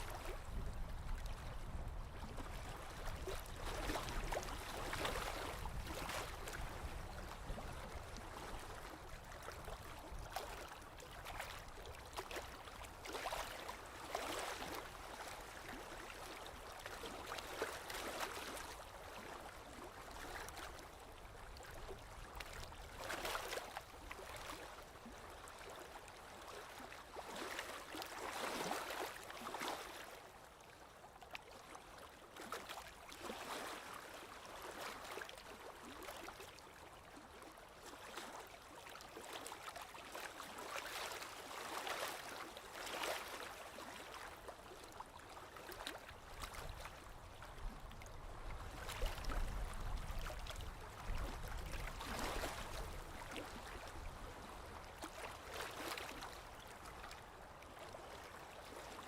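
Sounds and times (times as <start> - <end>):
lake waves lapping on shore: 0.0 - 59.0.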